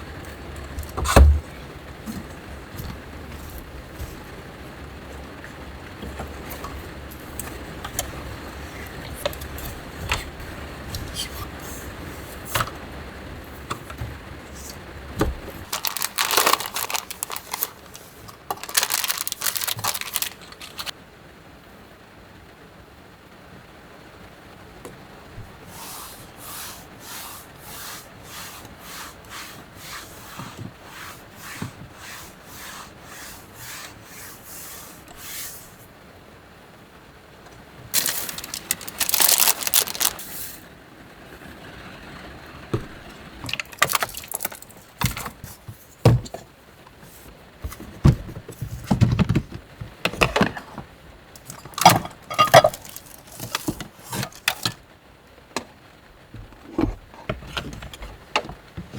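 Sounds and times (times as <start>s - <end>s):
rustling and scraping: 0.0s - 21.0s, 25.4s - 35.9s, 37.5s - 40.7s, 42.2s - 54.9s, 55.5s - 58.9s.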